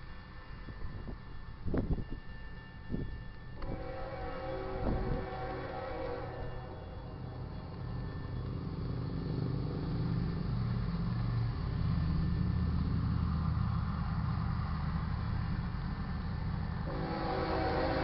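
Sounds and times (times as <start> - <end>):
diesel locomotives rumbling: 0.0 - 18.0.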